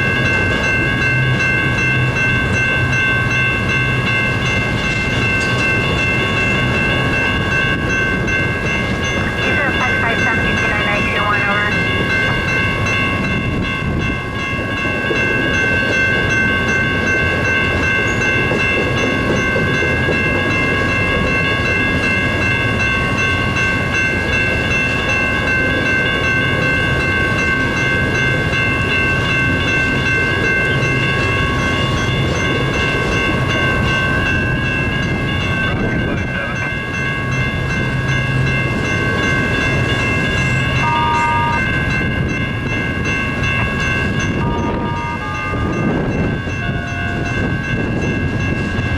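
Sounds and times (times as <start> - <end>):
steady ringing tones: 0.0 - 48.9
train wheels rumbling: 0.0 - 48.9.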